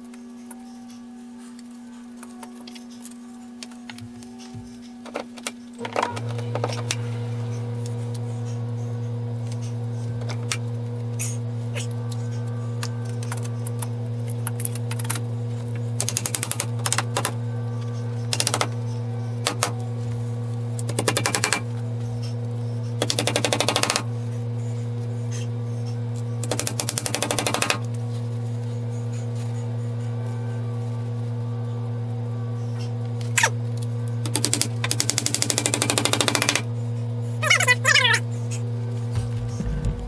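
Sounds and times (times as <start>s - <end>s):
low hum: 5.7s - 40.0s.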